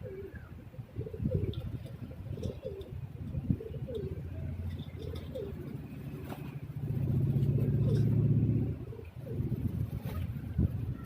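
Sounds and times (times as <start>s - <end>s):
low steady hum: 0.0s - 11.0s
pigeons cooing: 0.0s - 11.0s.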